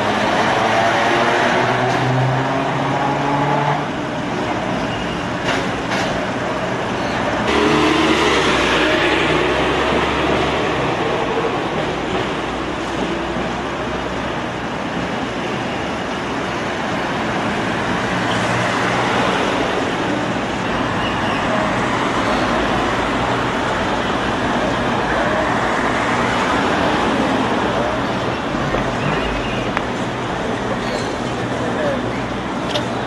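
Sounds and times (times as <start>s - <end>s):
rumble of passing traffic: 0.0s - 33.0s.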